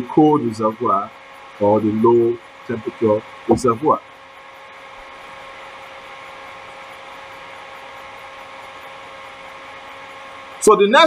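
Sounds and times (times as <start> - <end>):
heat engine mechanical whir: 0.0 - 11.0
steady high tones: 0.0 - 11.0.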